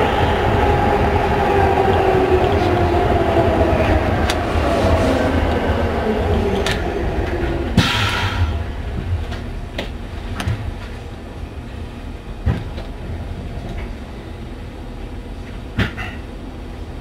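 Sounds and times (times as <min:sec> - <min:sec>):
train low steady rumble: 0:00.0 - 0:17.0.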